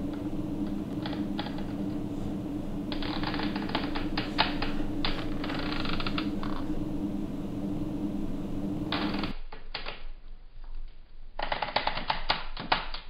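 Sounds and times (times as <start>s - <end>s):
low steady hum: 0.0s - 11.4s.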